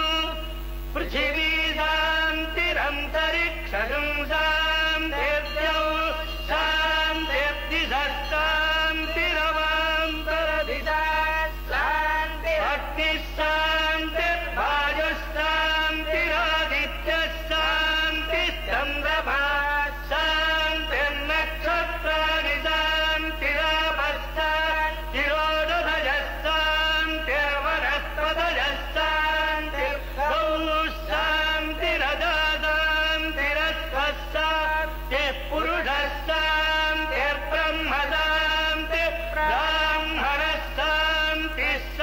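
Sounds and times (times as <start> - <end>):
man chanting mantras: 0.0 - 42.0
steady low hum: 0.0 - 42.0.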